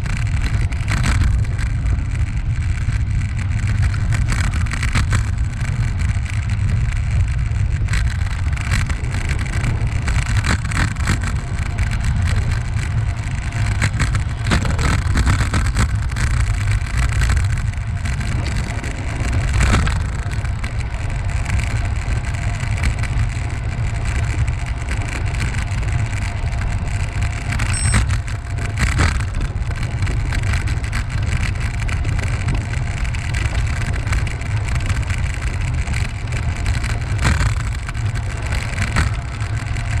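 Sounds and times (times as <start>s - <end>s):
wind rumble on microphone: 0.0s - 40.0s.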